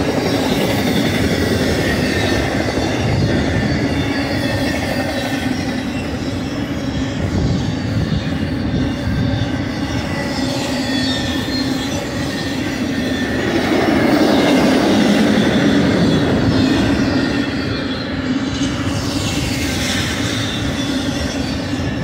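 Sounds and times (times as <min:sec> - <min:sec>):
freight train wheels rumbling: 0:00.0 - 0:22.0
high wheel squeal: 0:00.0 - 0:22.0.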